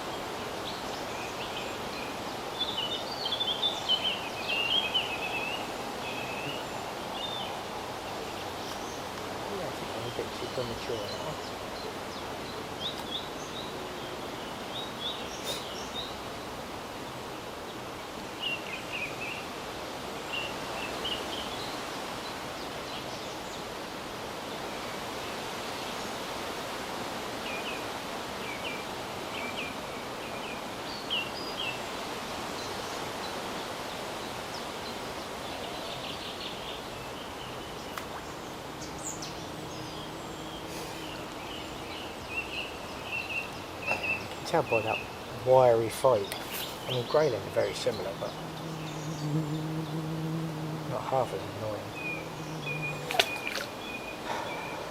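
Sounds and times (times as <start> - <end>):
small birds chirping: 0.0 - 23.8, 27.4 - 54.9
river water rushing: 0.0 - 54.9.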